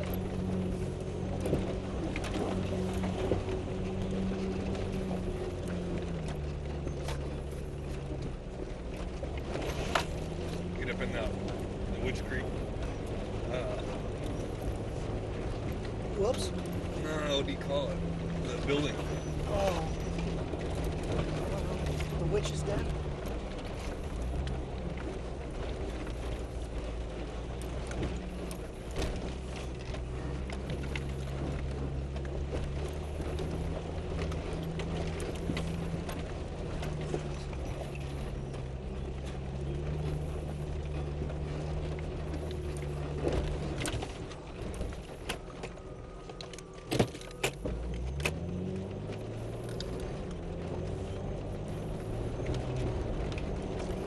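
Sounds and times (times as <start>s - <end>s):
cab rattles and knocks: 0.0s - 54.0s
truck engine running: 0.0s - 54.0s.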